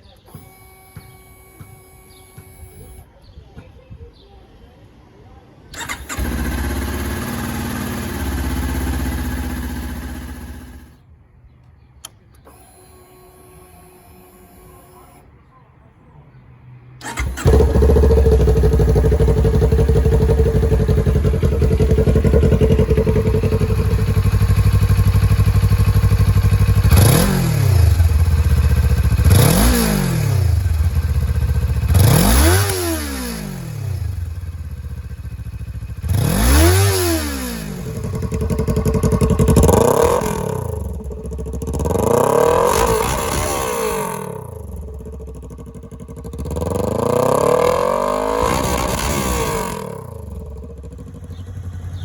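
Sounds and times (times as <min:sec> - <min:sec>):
motorcycle engine revving: 0:00.0 - 0:03.0, 0:05.7 - 0:11.1, 0:17.0 - 0:52.0
motorcycle engine idling: 0:00.0 - 0:04.2, 0:05.7 - 0:11.2, 0:17.0 - 0:52.0.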